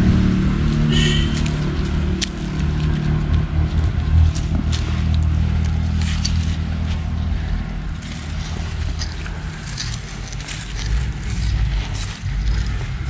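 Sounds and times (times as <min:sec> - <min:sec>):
low engine hum: 0:00.0 - 0:13.0
low rumble: 0:00.0 - 0:13.0
light scrapes and clicks: 0:01.3 - 0:13.0.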